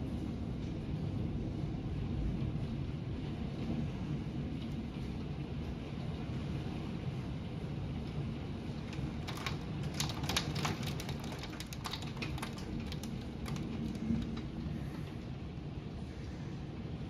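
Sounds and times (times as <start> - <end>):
low rumble of storm wind: 0.0 - 17.0
rain ticking on window glass: 0.0 - 17.0.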